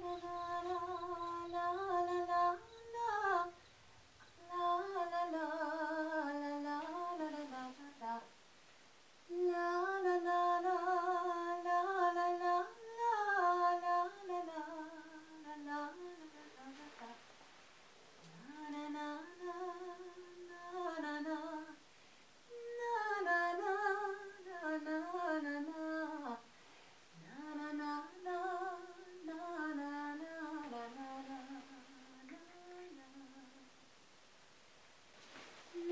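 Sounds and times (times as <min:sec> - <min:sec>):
woman humming a slow tune: 0:00.0 - 0:08.3, 0:09.3 - 0:17.2, 0:18.2 - 0:21.8, 0:22.5 - 0:26.4, 0:27.1 - 0:33.8, 0:35.4 - 0:35.9.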